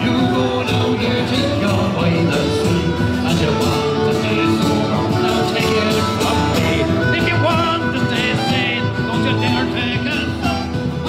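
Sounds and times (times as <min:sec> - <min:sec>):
guitar and band accompaniment: 0:00.0 - 0:11.0
person singing: 0:00.0 - 0:11.0.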